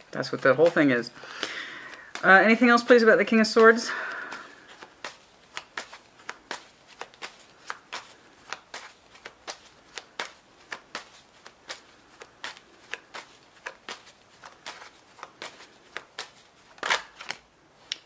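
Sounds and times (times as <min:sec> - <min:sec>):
cards being shuffled: 0:00.0 - 0:18.0.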